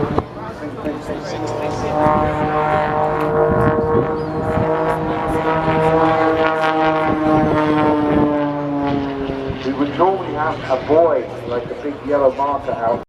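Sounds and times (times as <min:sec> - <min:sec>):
propeller plane engine running: 0:00.0 - 0:13.0.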